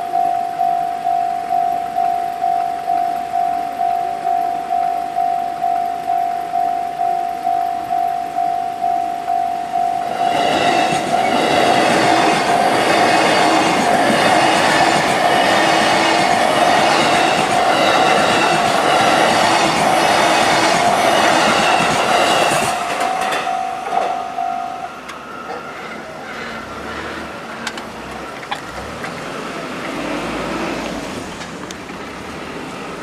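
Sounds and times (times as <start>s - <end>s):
steady high tone: 0.0s - 28.1s
train rumble and wheel clatter: 1.8s - 33.0s.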